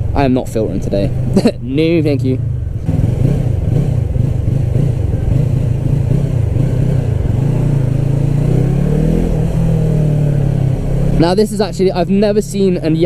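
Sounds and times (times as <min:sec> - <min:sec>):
motorcycle engine running: 0:00.8 - 0:13.0.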